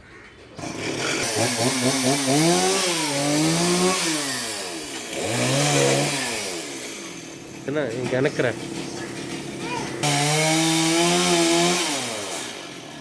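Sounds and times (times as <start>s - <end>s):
chainsaw engine revving: 0.6s - 13.0s.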